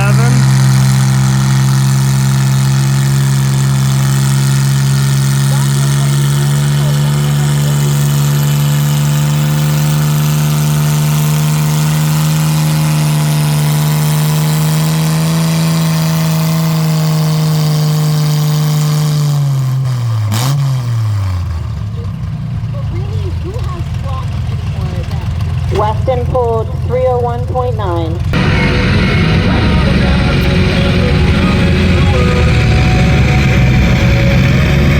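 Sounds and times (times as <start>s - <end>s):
tractor engine under full load: 0.0s - 34.9s.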